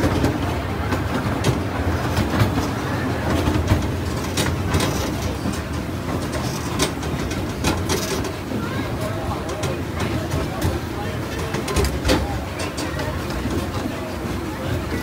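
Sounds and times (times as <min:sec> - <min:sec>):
ride train rumbling on track: 0:00.0 - 0:15.0
wheels clacking on rails: 0:00.0 - 0:15.0.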